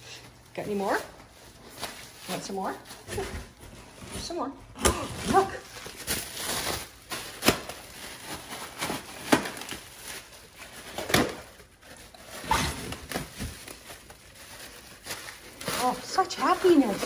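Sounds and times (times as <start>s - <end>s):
plastic crinkling: 0.1s - 17.0s.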